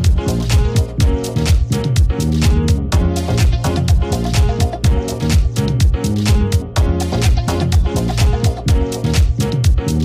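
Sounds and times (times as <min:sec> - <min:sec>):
moving bass line: 0:00.0 - 0:10.0
upbeat music: 0:00.0 - 0:10.0.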